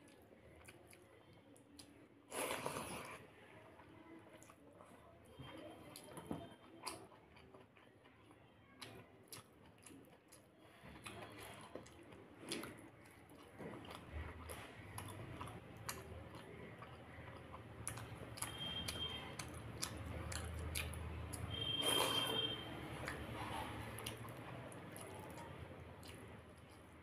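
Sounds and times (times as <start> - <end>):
chewing and mouth clicks: 3.8 - 27.0.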